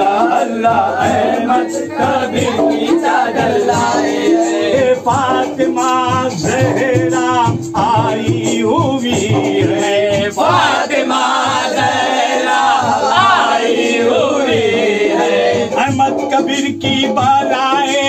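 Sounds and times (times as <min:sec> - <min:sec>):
men singing chant in chorus: 0:00.0 - 0:18.0.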